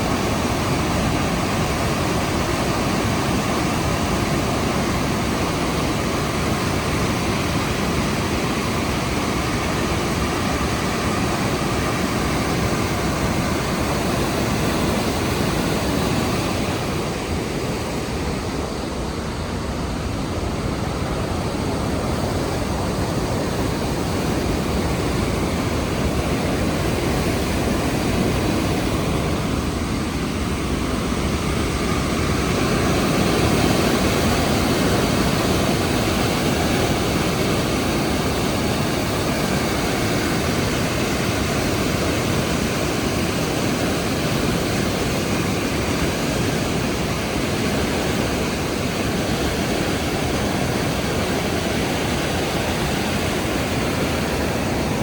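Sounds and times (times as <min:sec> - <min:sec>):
cascading waterfall rushing: 0:00.0 - 0:55.0.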